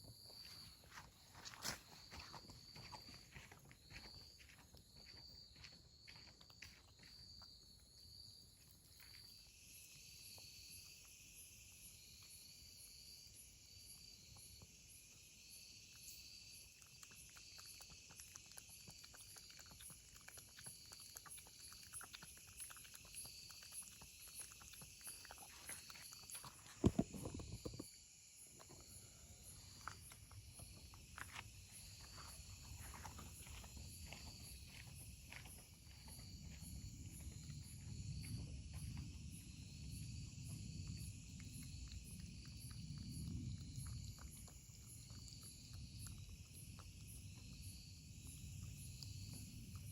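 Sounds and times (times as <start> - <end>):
insects chirping and buzzing: 0.0 - 49.9.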